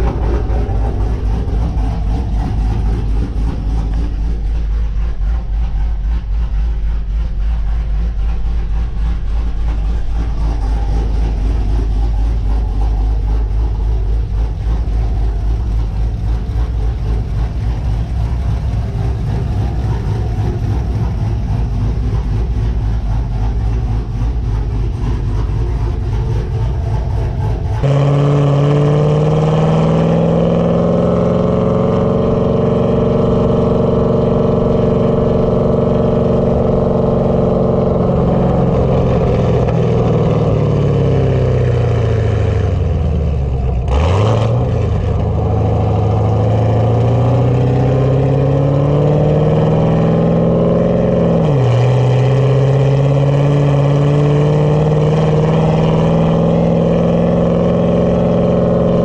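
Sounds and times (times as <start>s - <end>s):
car engine accelerating: 0.0s - 59.0s
rush of noise: 0.0s - 59.0s.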